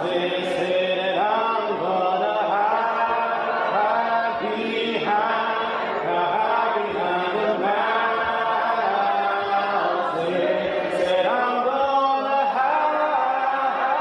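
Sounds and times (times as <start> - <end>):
voices singing a hymn a cappella: 0.0 - 14.0.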